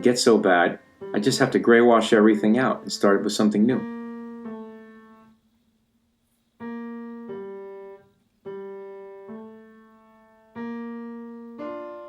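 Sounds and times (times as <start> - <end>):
slow piano notes: 0.0 - 5.6, 6.3 - 12.0.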